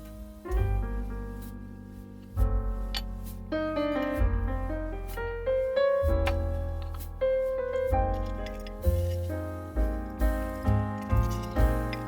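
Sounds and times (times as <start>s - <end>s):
keyboard melody over deep bass: 0.0s - 12.0s.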